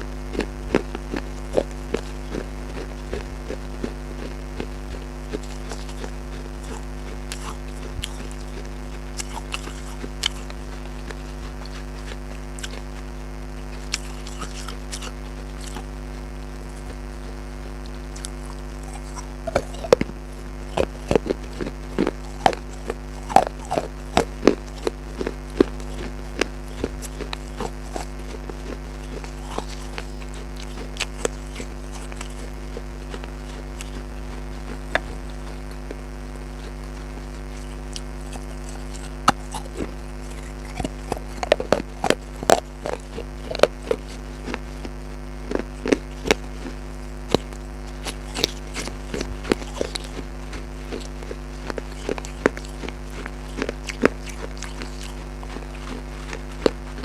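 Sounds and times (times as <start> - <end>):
crunchy leafy food being chewed: 0.0 - 57.0
steady low hum: 0.0 - 57.0.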